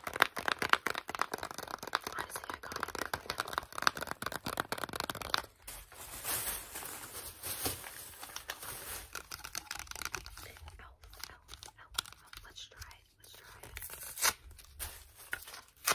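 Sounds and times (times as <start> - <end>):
packaging rustling: 0.0 - 12.5, 13.6 - 15.9
plastic blister pack crinkling: 0.0 - 15.9.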